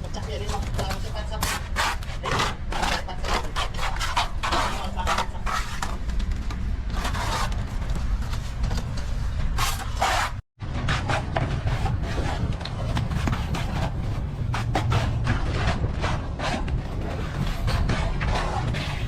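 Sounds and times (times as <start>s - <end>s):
trowel scraping a wall: 0.1s - 6.1s, 6.9s - 19.0s.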